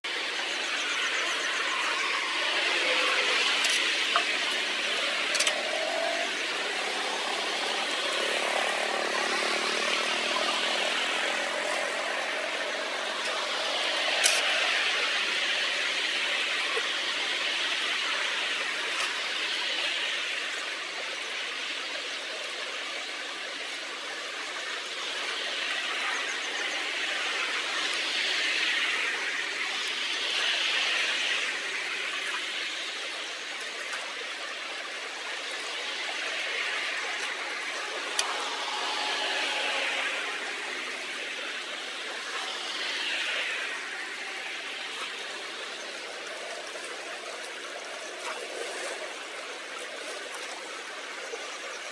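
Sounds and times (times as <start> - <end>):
water rushing through culvert: 0.0 - 51.9.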